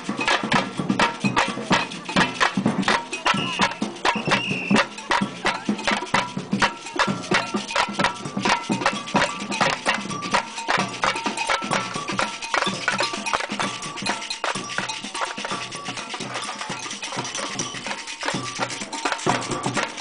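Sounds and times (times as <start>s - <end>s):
samba drumming: 0.0s - 20.0s.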